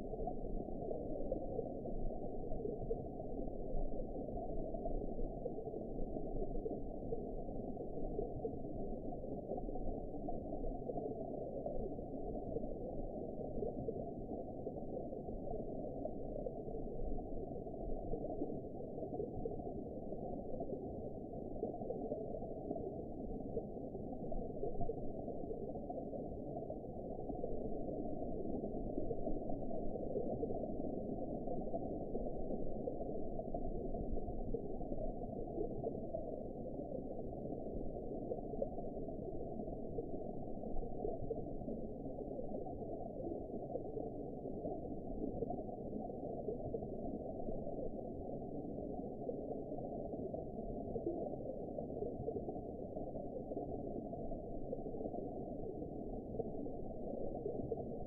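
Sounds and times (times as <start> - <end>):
muffled underwater water wash: 0.0 - 58.0.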